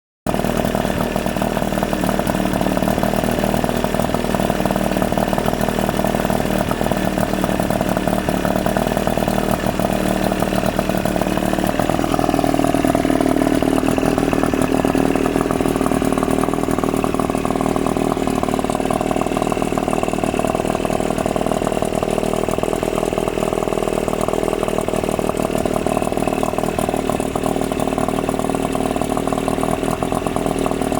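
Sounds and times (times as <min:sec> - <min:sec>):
two-stroke outboard motor running: 0:00.3 - 0:30.9.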